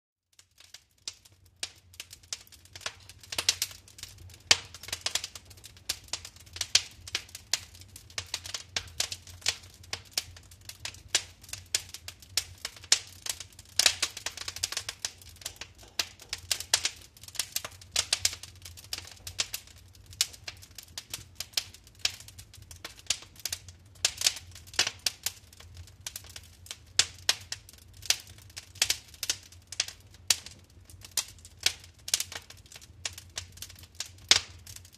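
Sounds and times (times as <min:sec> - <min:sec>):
wood fire crackling and popping: 0:00.3 - 0:34.9.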